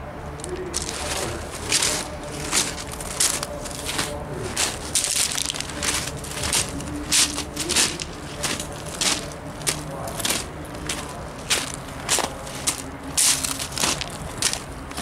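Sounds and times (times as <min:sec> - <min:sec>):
footsteps crunching on gravel: 0:00.4 - 0:15.0.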